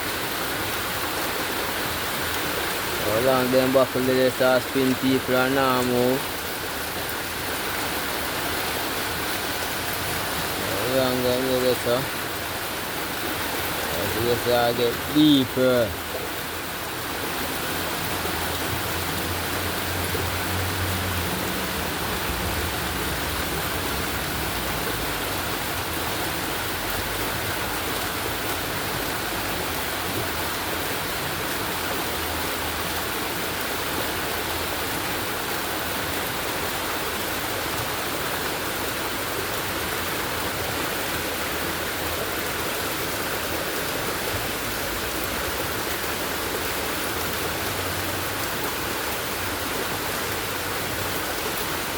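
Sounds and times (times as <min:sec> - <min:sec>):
heavy rain downpour: 0:00.0 - 0:51.9.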